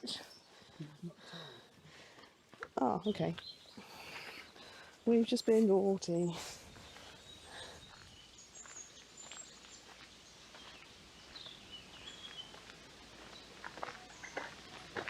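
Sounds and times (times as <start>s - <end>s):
faint songbird chirps and trills: 0.0s - 15.0s
soft rustles or footsteps: 0.0s - 15.0s.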